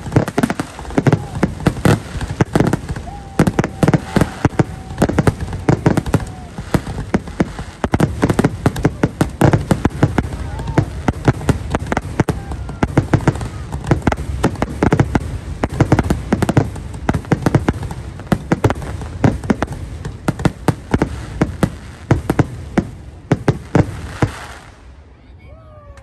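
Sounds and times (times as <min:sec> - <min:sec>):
fireworks booming and crackling: 0:00.0 - 0:25.2.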